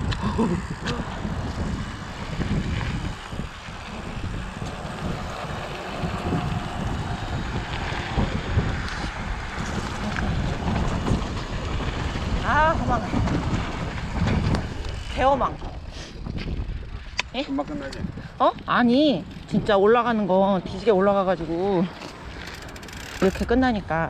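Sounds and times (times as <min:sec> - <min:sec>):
bike rattling: 0:00.0 - 0:24.0
wind buffeting microphone: 0:00.0 - 0:24.0.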